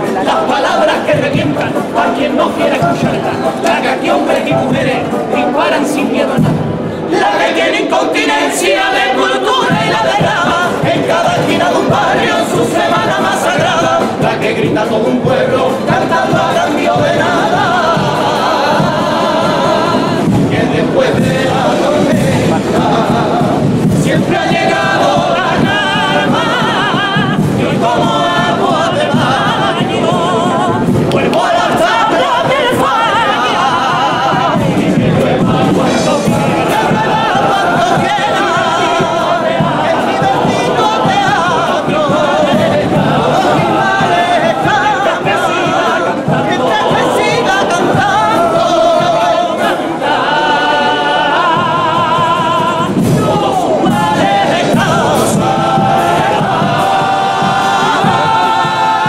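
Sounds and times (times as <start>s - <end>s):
male chorus singing in harmony: 0.0s - 59.0s.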